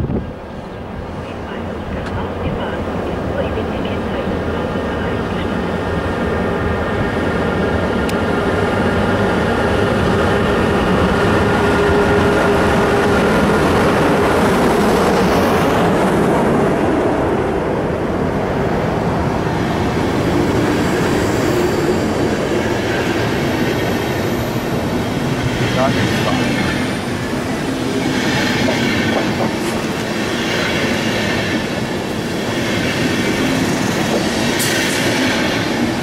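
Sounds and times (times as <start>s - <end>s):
train passing close by: 0.0s - 36.0s.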